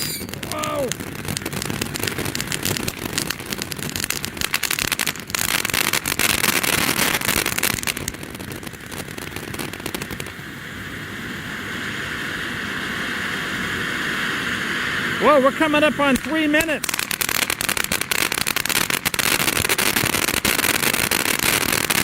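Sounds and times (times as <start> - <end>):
firework crackling and hissing: 0.0 - 22.0.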